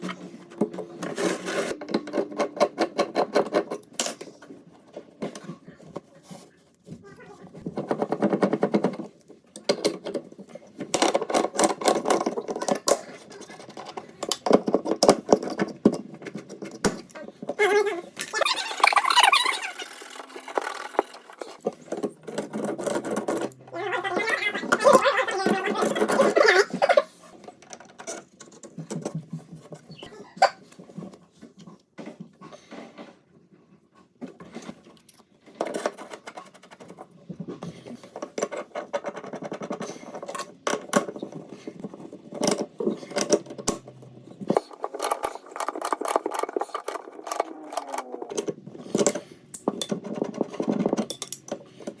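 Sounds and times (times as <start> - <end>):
hand tools clicking and scraping: 0.0 - 6.9, 7.5 - 31.7, 34.4 - 52.0.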